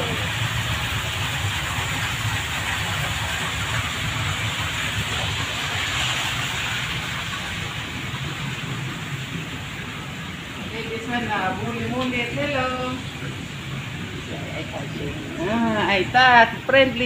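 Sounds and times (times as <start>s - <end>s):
aquarium pumps running: 0.0s - 17.0s
circulating water: 0.0s - 17.0s.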